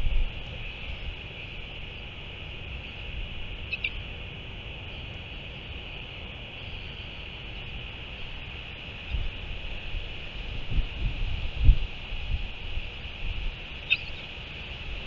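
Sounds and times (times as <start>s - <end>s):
steady high hiss: 0.0s - 15.0s
wind rumbling on microphone: 0.0s - 15.0s.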